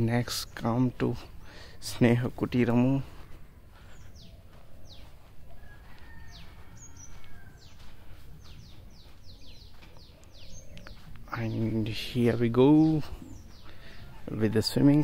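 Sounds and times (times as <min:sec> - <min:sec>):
birds chirping: 0:00.0 - 0:15.0
low steady background noise: 0:00.0 - 0:15.0.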